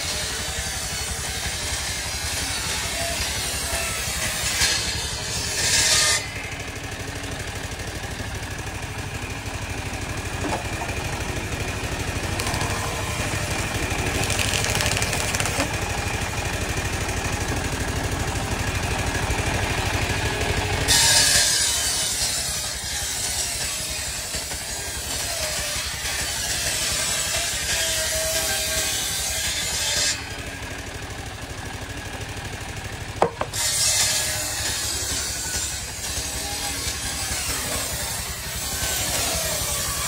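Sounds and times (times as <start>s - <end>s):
saw cutting through wood: 0.0s - 40.0s
sawmill engine running: 0.0s - 40.0s.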